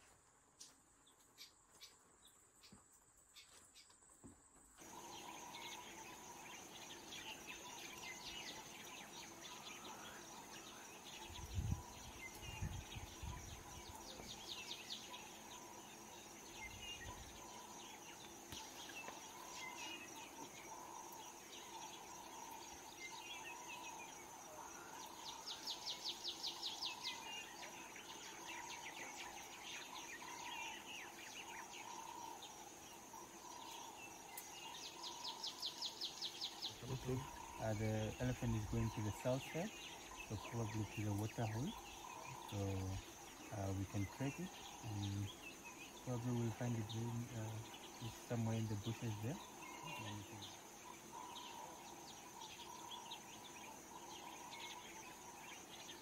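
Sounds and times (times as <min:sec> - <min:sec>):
insects droning: 0:00.0 - 0:56.0
birds chirping: 0:01.0 - 0:56.0.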